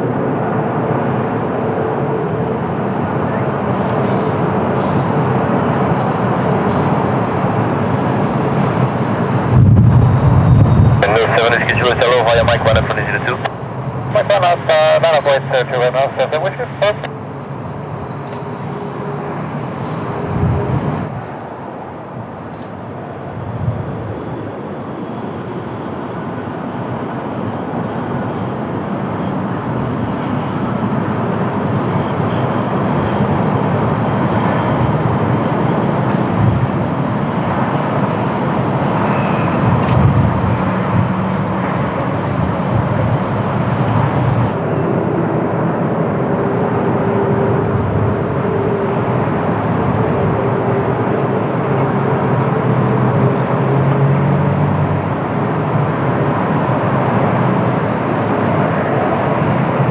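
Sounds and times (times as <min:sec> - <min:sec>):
wind buffeting microphone: 0:00.0 - 0:21.2, 0:26.7 - 0:59.9
jet airliner engine noise: 0:00.0 - 0:59.9.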